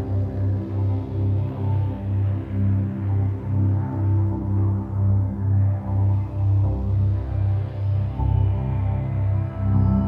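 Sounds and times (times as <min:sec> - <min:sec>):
dark sustained background music: 0:00.0 - 0:10.0.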